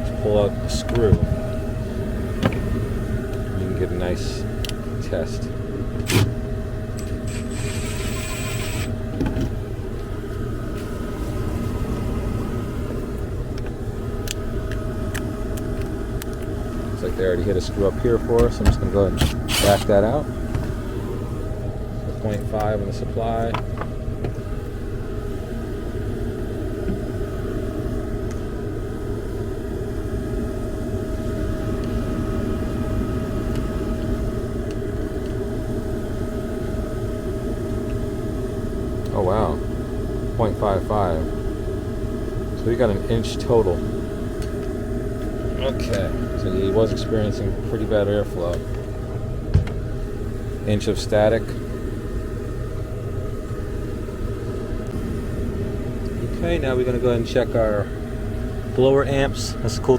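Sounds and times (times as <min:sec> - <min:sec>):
faint steady hum: 0:00.0 - 0:59.9
furnace blower rumbling: 0:00.0 - 0:59.9.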